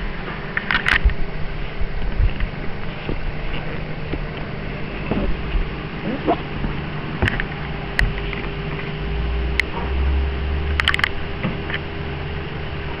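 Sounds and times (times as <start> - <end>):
faint steady hum: 0.0 - 13.0
wind rumble on microphone: 0.0 - 13.0.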